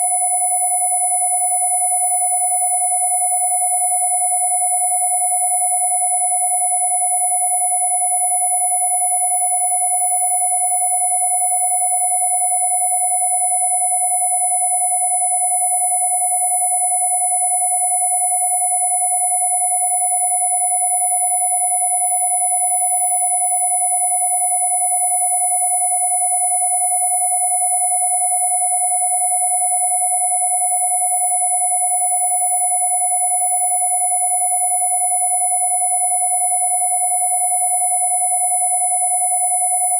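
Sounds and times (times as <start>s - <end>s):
mid-pitched sine tone: 0.0s - 39.9s
very high sine tone: 0.0s - 39.9s.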